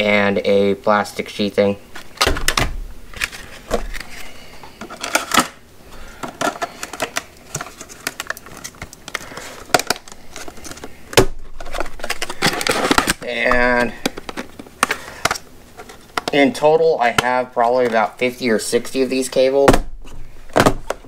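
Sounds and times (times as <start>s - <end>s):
plastic packs clicking and crinkling: 2.0s - 21.0s.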